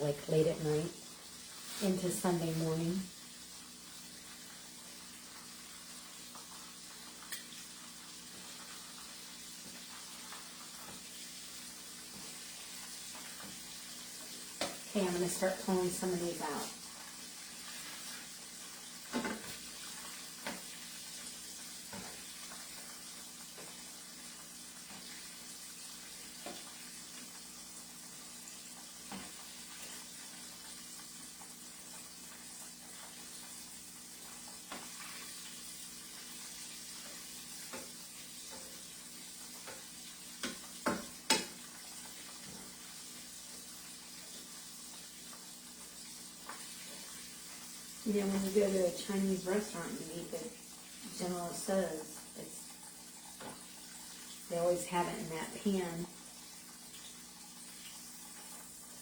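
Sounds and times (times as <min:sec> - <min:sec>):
chicken deep-frying sizzle: 0:00.0 - 0:59.0.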